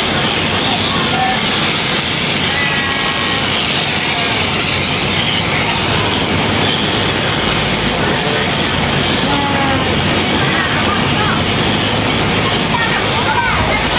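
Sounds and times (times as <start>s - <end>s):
electric shearing handpiece running: 0.0s - 13.9s.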